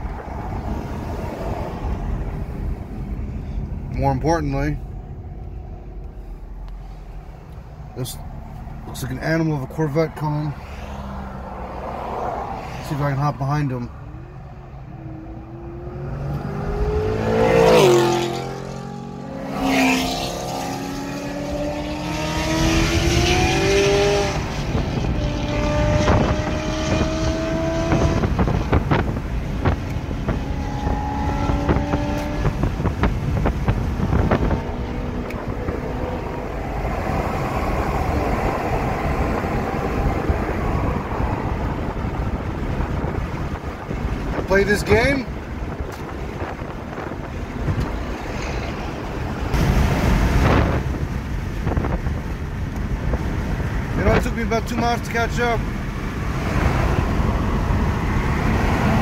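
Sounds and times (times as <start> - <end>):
car engine accelerating: 0.0 - 59.0
road and wind noise: 0.0 - 59.0
sports car passing loudly: 6.5 - 59.0.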